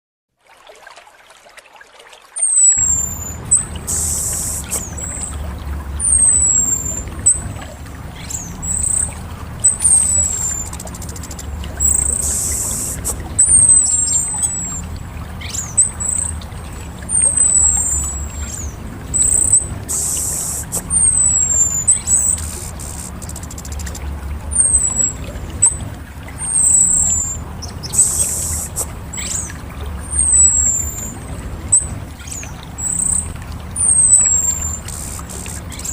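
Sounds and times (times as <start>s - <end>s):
bird whistled calls: 2.4s - 5.4s, 6.0s - 35.9s.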